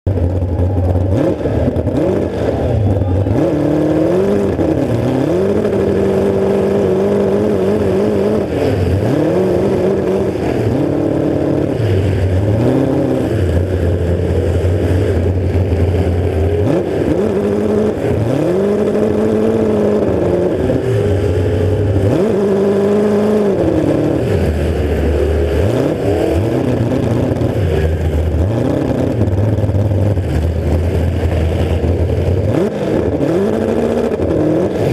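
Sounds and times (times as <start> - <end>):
car engine revving and idling: 0.0 - 34.9.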